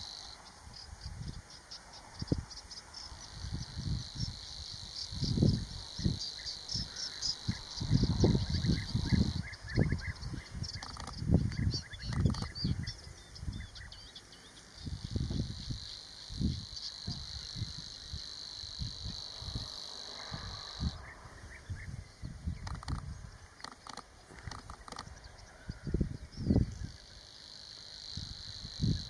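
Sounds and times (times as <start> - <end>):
bird singing buzzing reel: 0.0 - 29.0
wind buffeting microphone: 0.7 - 13.9, 14.8 - 27.0, 28.0 - 29.0.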